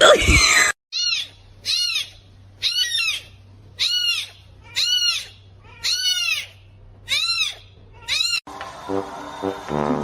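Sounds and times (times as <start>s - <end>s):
animal crying: 0.0s - 8.4s.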